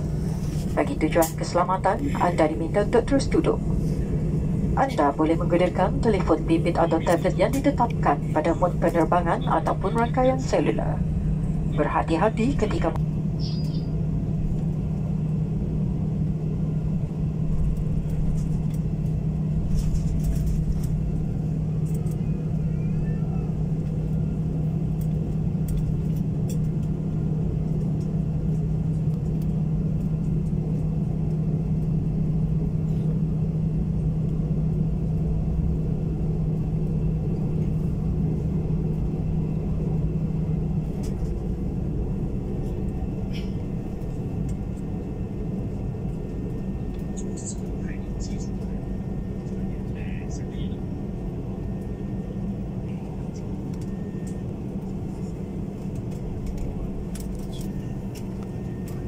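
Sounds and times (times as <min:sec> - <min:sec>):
constant cabin hum: 0:00.0 - 0:59.0
jet engines idling rumble: 0:00.0 - 0:59.0.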